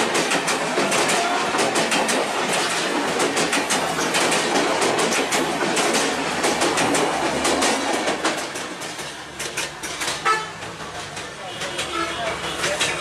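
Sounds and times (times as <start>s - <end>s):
train passing at speed: 0.0s - 13.0s
wheels clattering over rail joints: 0.0s - 13.0s.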